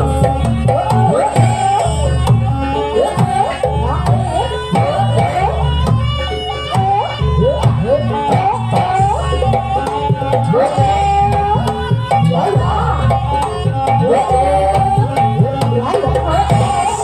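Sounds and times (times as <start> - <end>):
melody with sliding bending notes: 0.0 - 17.0.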